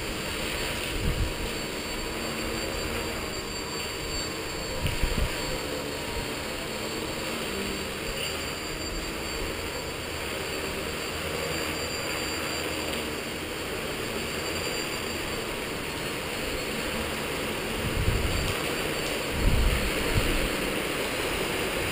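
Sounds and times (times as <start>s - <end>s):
even hiss: 0.0s - 21.9s
rc helicopter motor whine: 0.0s - 21.9s.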